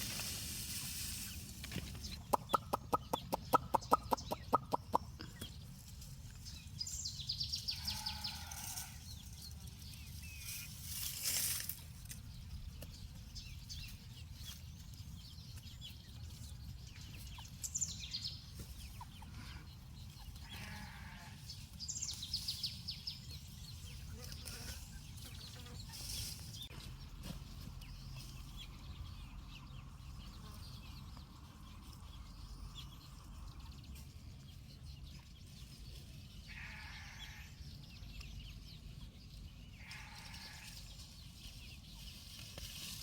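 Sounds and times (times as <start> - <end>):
chickens clucking: 0.0 - 11.0, 12.4 - 36.2.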